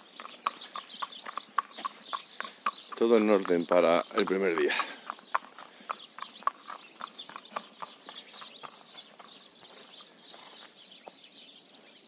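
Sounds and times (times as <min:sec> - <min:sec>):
horse hooves clopping on pavement: 0:00.0 - 0:11.3.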